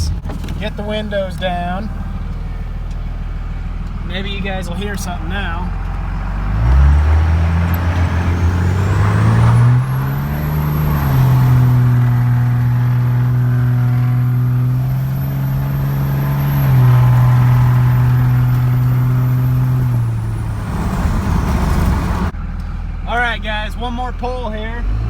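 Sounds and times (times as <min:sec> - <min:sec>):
diesel engine at full throttle: 0:00.0 - 0:25.0.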